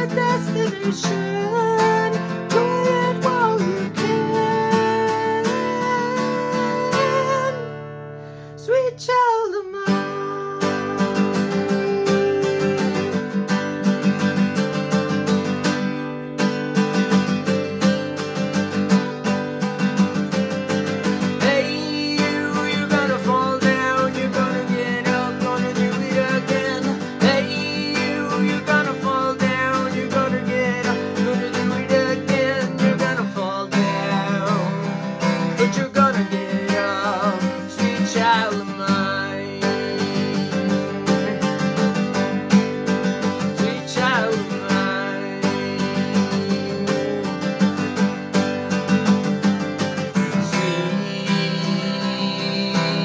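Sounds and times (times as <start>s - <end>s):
man singing: 0.0s - 7.8s, 8.6s - 14.2s, 20.1s - 53.0s
acoustic guitar strumming: 0.0s - 53.0s.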